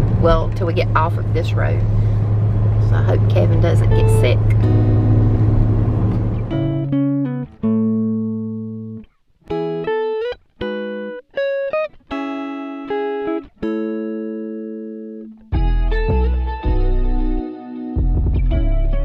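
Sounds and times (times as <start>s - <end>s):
plucked guitar notes: 0.0s - 19.0s.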